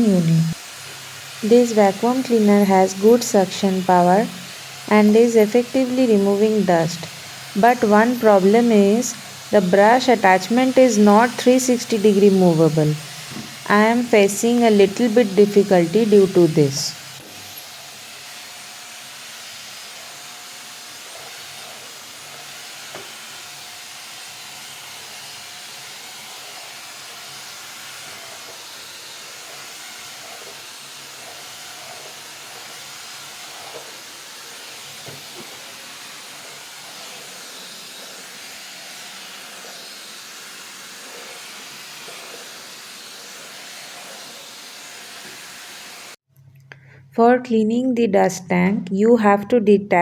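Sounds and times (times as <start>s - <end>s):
handheld vacuum cleaner hiss: 0.0s - 46.2s.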